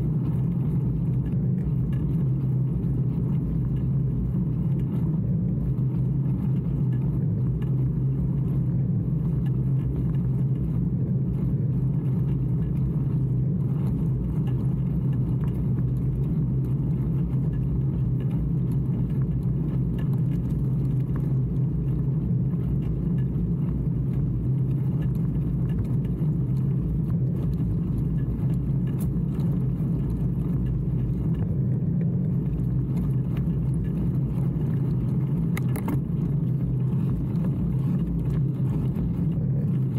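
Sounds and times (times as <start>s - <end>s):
bicycle tyres rolling on asphalt: 0.0s - 39.9s
wind rumble on microphone: 0.0s - 39.9s.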